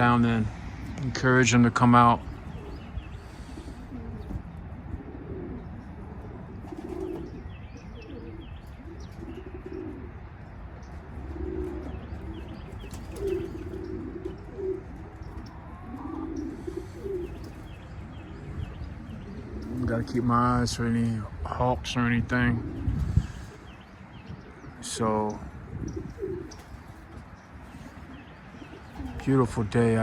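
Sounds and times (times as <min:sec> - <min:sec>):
pigeons cooing: 0:00.0 - 0:30.0.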